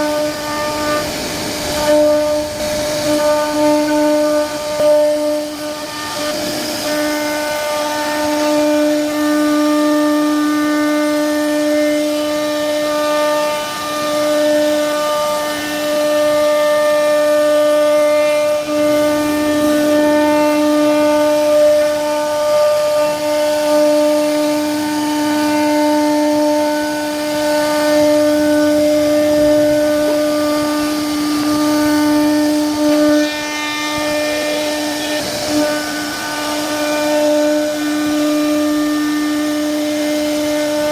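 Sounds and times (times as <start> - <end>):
router spindle whining cutting wood: 0.0 - 40.9.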